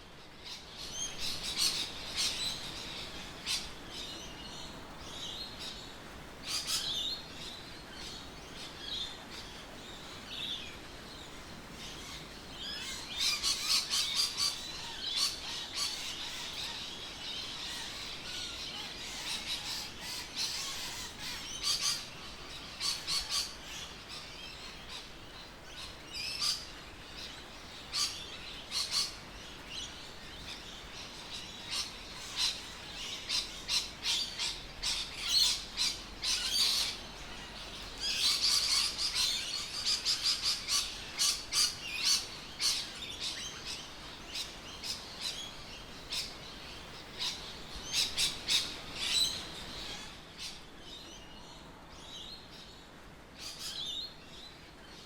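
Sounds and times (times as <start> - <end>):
birds chirping: 0.2 - 55.0.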